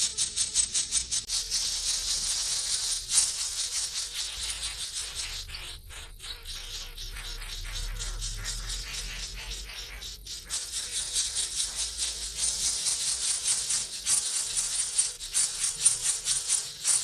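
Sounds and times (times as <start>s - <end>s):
nestlings chirping: 0.0s - 17.0s.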